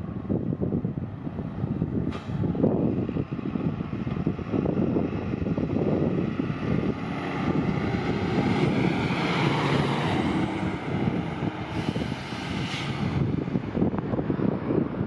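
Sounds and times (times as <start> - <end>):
fire engine rumble: 0.0 - 15.0
tyre and road noise: 0.0 - 15.0.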